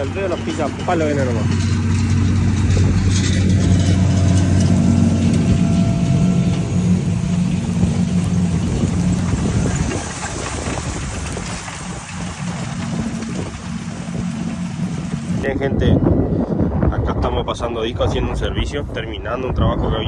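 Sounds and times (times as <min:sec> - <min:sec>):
tractor engine droning: 0:00.0 - 0:18.5.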